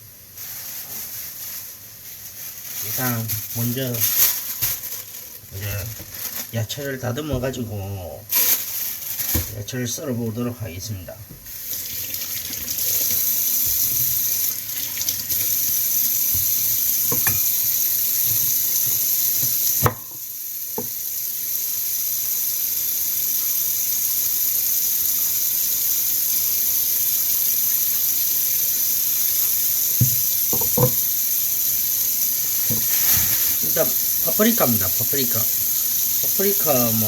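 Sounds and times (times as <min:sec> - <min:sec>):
kitchen tap running: 0:02.9 - 0:08.0, 0:09.0 - 0:37.0.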